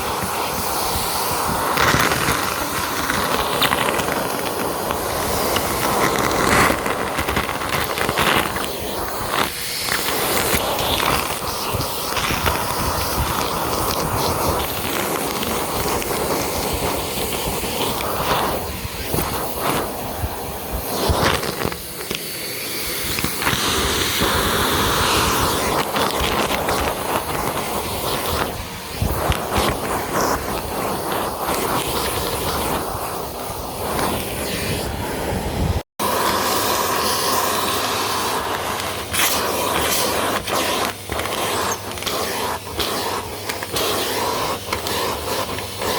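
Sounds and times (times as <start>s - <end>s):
vacuum cleaner on carpet: 0.0s - 45.9s.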